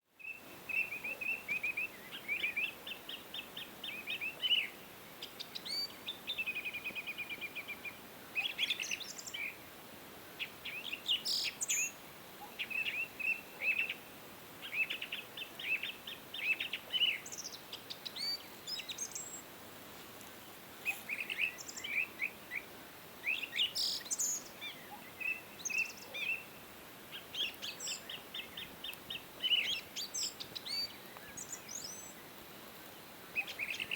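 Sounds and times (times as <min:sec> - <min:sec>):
faint background hiss: 0:00.0 - 0:33.9
small birds chirping: 0:00.1 - 0:09.8, 0:10.4 - 0:19.5, 0:20.2 - 0:33.9.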